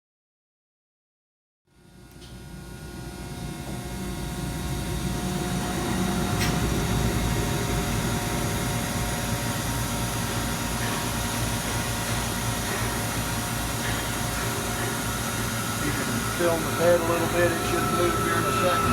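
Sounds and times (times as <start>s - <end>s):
laser cutter machine hum: 1.7s - 18.9s.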